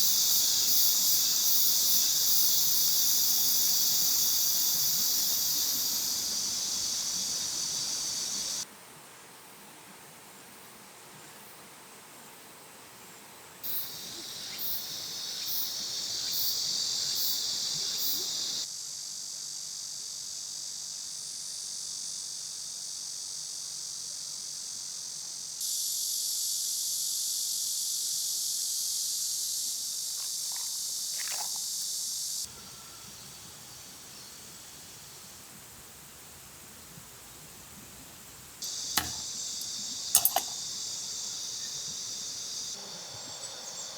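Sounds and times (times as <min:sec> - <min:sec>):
insects buzzing: 0:00.0 - 0:08.7, 0:13.0 - 0:43.9.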